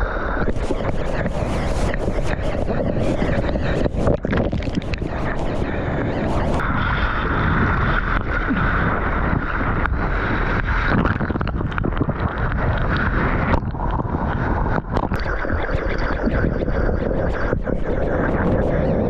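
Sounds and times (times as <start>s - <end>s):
wind buffeting microphone: 0.0s - 19.0s
rushing water: 0.4s - 18.7s.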